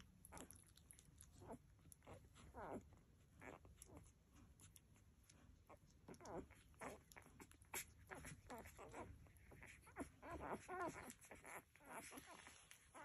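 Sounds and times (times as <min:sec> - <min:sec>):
puppies squeaking and grunting: 0:00.0 - 0:13.0.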